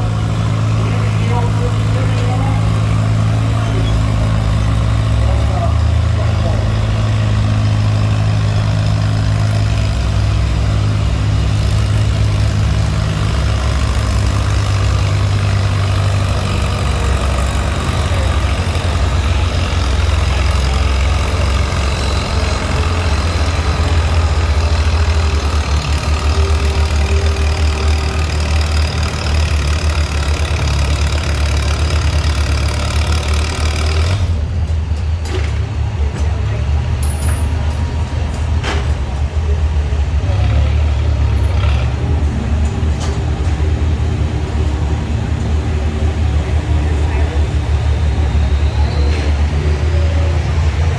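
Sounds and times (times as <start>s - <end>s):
tractor engine humming: 0.0s - 50.9s.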